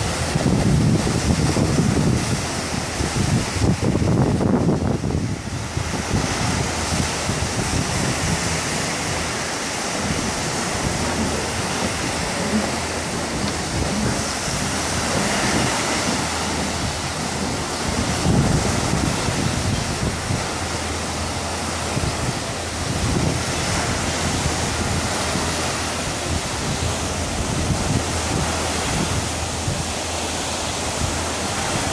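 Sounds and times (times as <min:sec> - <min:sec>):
ocean surf washing: 0:00.0 - 0:31.9
wind buffeting microphone: 0:00.0 - 0:31.9.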